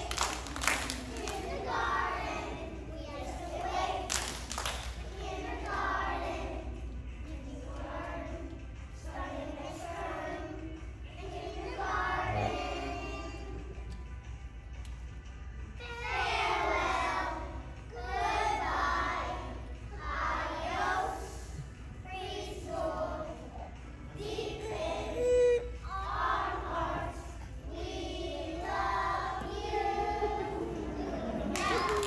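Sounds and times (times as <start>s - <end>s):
children singing together: 0.0s - 13.8s, 15.8s - 32.0s.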